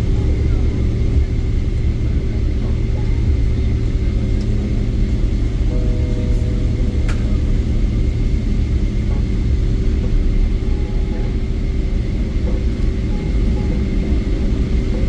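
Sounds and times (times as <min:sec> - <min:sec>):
aircraft cabin rumble: 0:00.0 - 0:15.0
faint steady hum: 0:00.0 - 0:15.0.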